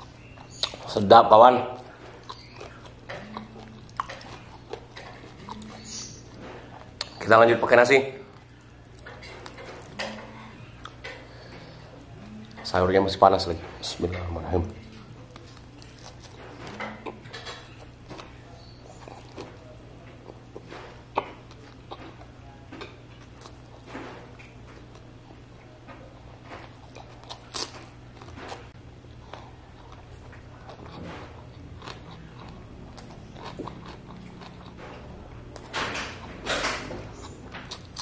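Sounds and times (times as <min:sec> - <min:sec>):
man chewing with mouth clicks: 0:00.0 - 0:01.0, 0:01.7 - 0:07.2, 0:08.3 - 0:12.8, 0:14.1 - 0:38.0
steady low hum: 0:00.0 - 0:38.0.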